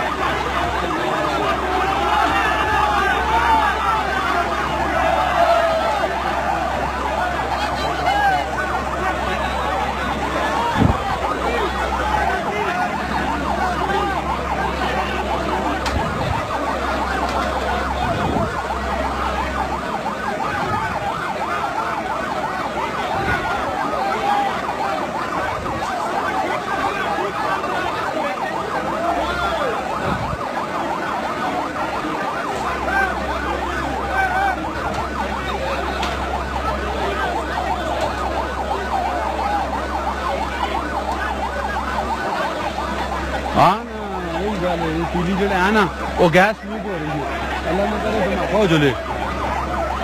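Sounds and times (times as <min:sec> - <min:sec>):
siren yelping: 0:00.0 - 0:50.0.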